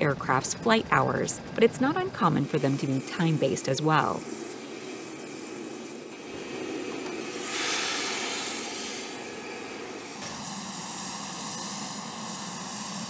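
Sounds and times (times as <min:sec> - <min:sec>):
aircraft turbine engines running: 0:00.0 - 0:13.0.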